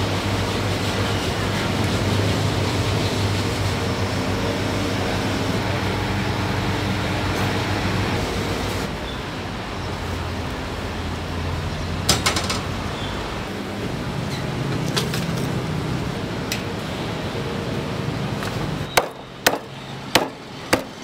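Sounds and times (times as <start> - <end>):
hum of busy food stall: 0.0 - 21.0.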